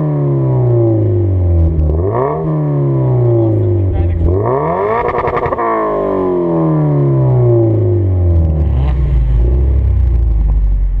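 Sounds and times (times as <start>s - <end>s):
car engine revs falling: 0.0s - 10.9s.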